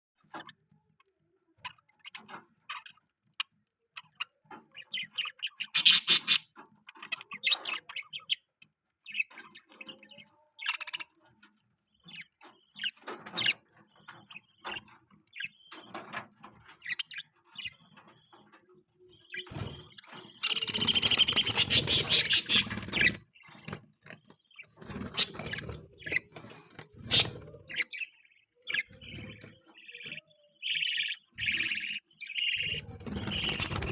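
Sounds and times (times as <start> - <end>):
budgie chicks chirping: 0.2 - 33.9.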